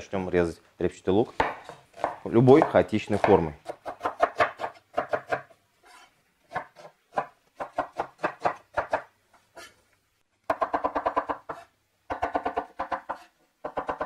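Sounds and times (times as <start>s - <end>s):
knife chopping on wooden board: 1.4s - 9.8s, 10.5s - 14.0s.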